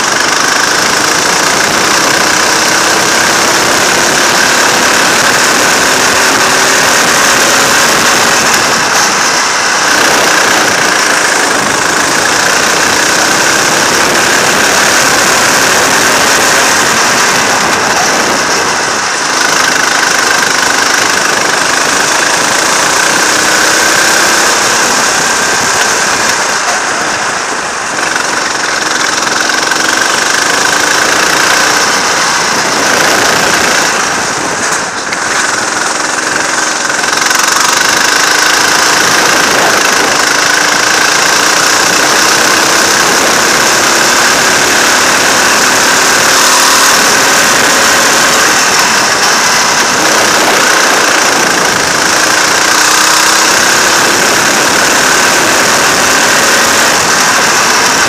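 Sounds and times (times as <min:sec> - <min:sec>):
go-kart engine running hard: 0:00.0 - 0:58.0
steady rushing noise: 0:00.0 - 0:58.0.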